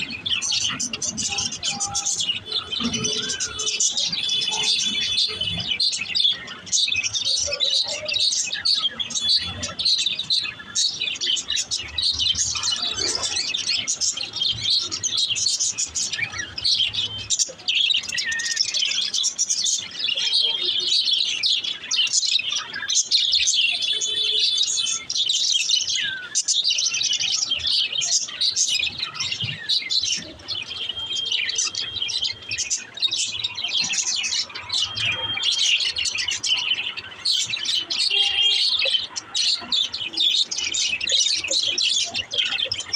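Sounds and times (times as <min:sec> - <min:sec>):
budgerigars chirping: 0:00.0 - 0:42.9.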